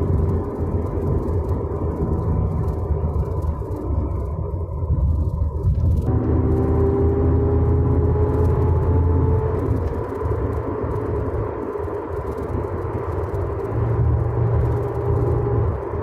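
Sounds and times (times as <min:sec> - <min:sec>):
drivetrain and road rumble: 0:00.0 - 0:16.0
rear differential whine: 0:00.0 - 0:16.0.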